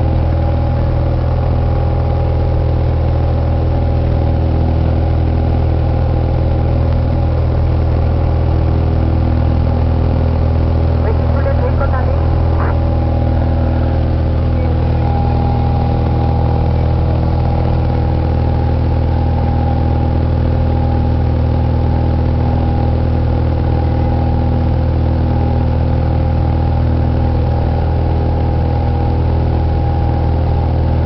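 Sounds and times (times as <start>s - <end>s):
airplane engine droning in cabin: 0.0s - 31.0s.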